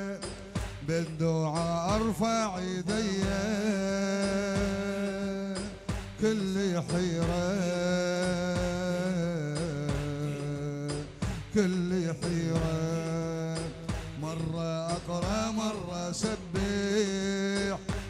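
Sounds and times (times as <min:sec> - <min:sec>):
men chanting into microphones: 0:00.0 - 0:18.0
sharp hand claps: 0:00.1 - 0:18.0.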